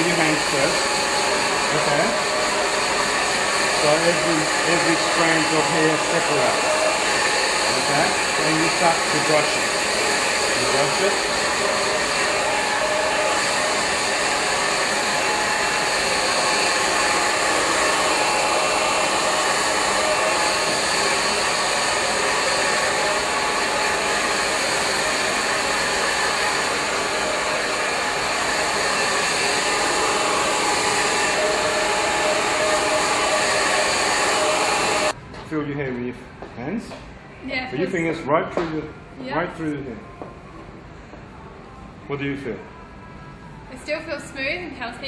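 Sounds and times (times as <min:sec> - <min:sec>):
hair dryer running: 0:00.0 - 0:35.2, 0:37.5 - 0:38.2, 0:39.2 - 0:39.9, 0:43.8 - 0:45.0.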